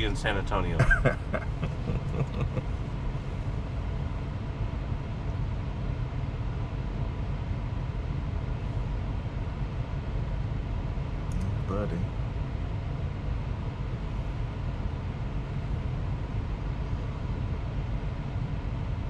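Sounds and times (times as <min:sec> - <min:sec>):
car cabin low rumble: 0:00.0 - 0:19.0.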